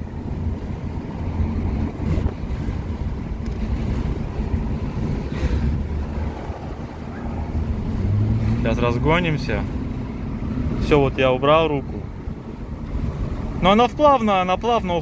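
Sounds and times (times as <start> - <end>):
engine and road rumble in cabin: 0.0 - 15.0.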